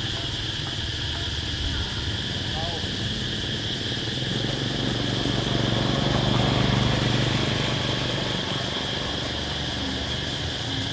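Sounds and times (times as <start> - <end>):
high-pitched hiss: 0.0 - 10.9
low engine hum: 0.7 - 10.9.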